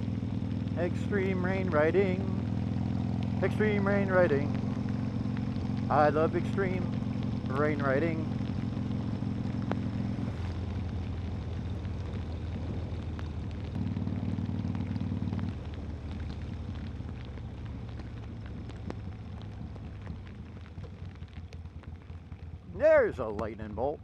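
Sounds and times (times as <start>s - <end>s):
motorcycle engine running: 0.0s - 24.0s
rain pattering on microphone: 0.0s - 24.0s.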